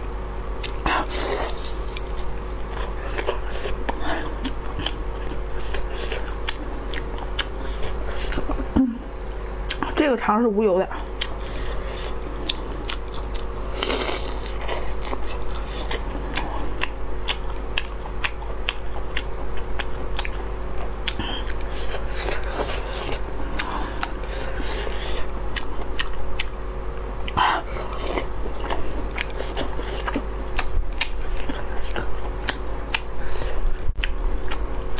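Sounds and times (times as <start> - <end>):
close chewing and biting: 0.6 - 8.7, 11.0 - 26.6, 27.2 - 34.9.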